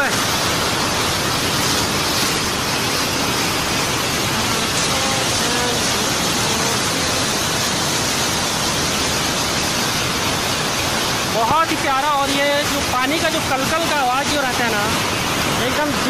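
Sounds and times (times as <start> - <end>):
white-water rapids rushing: 0.0 - 16.0.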